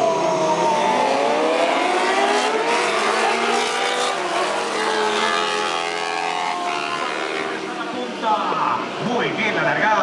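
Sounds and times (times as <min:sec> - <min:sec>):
racing motorbike engines revving: 0:00.0 - 0:10.0.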